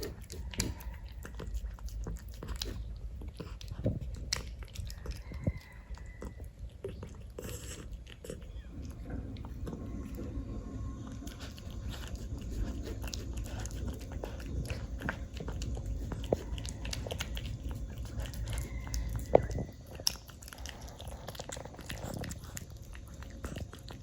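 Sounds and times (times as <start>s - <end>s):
wet smacking and licking: 0.0s - 9.9s, 11.2s - 24.0s
cat eating wet food: 0.0s - 24.0s.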